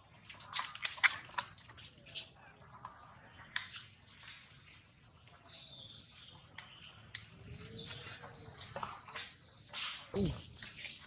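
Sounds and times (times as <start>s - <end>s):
birds chirping: 1.6s - 11.0s.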